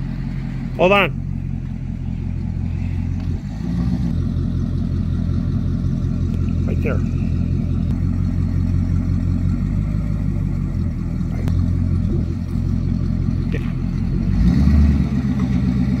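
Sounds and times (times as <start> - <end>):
pickup engine idling: 0.0 - 16.0.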